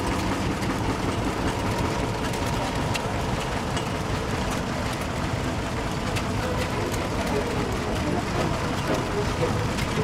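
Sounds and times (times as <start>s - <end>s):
stationary engines rumbling: 0.0s - 10.0s.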